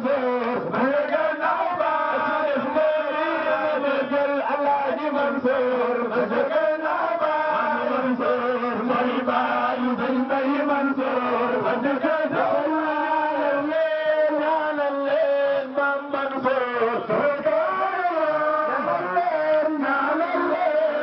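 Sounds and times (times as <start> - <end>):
men chanting through pa system: 0.0 - 21.0.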